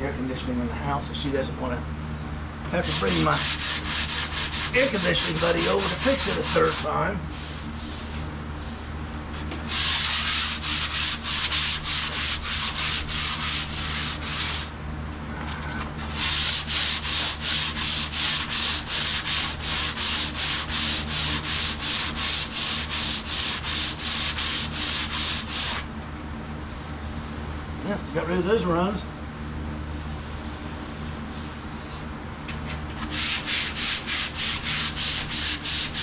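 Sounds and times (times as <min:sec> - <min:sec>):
hand sanding with sandpaper: 0:02.8 - 0:14.7, 0:16.0 - 0:25.9, 0:26.6 - 0:32.1, 0:33.0 - 0:36.0.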